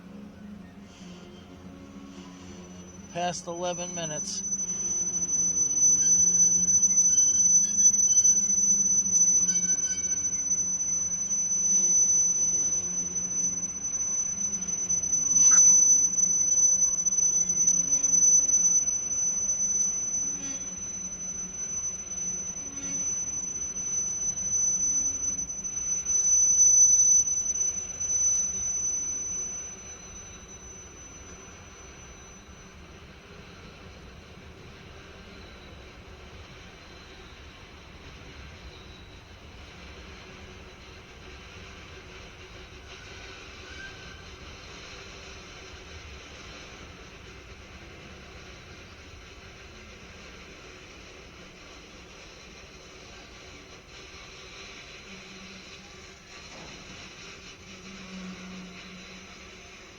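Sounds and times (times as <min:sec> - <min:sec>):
high-pitched wheel squeal: 0:00.4 - 0:40.7, 0:42.6 - 0:48.9, 0:52.4 - 0:59.9.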